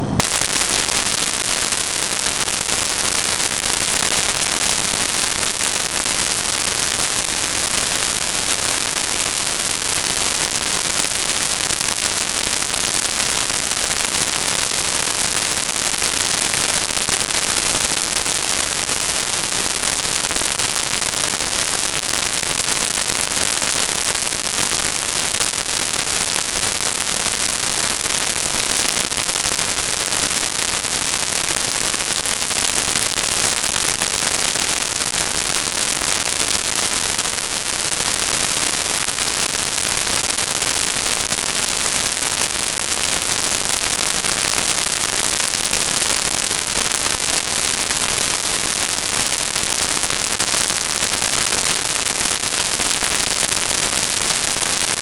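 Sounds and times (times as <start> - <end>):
static hiss and crackle: 0.0 - 55.0.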